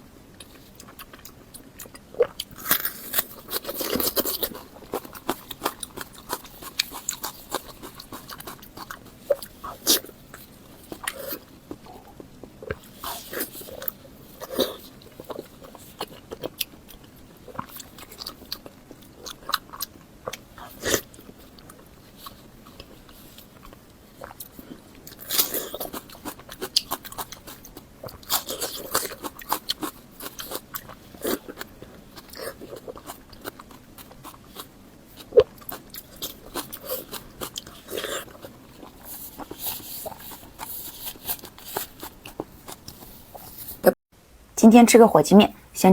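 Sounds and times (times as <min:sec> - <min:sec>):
biting and chewing: 0:00.4 - 0:43.9
mouth clicks and crunches: 0:00.4 - 0:43.9.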